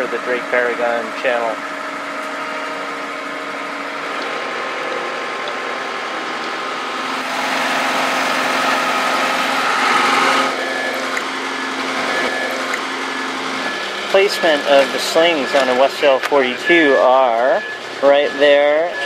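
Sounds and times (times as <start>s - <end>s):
travel lift engine running: 0.0s - 19.0s.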